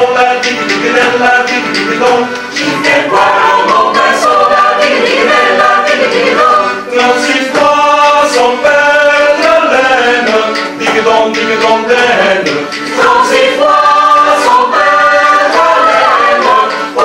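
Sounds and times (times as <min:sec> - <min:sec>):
choir singing a cappella: 0:00.0 - 0:17.0.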